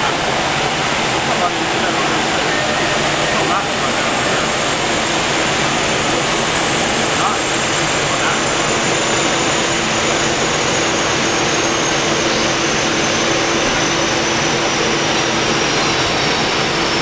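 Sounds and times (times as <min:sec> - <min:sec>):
dyno rollers rushing: 0:00.0 - 0:17.0
faint high whine: 0:01.2 - 0:17.0.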